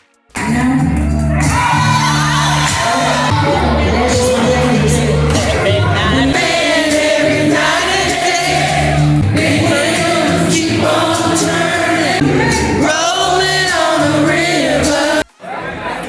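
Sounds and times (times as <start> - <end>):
repeating bass line: 0.4 - 15.2
group of voices singing: 0.4 - 15.5.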